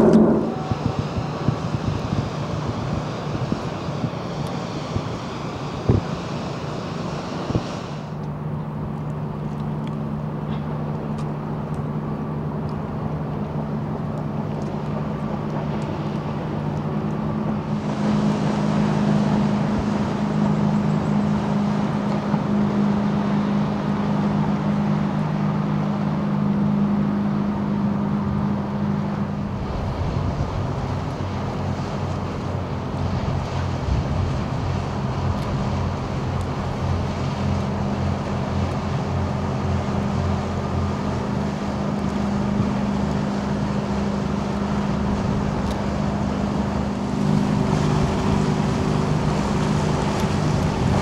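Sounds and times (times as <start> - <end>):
boat diesel engine humming: 0.0 - 51.0
water rushing: 0.0 - 51.0
wind: 0.0 - 51.0.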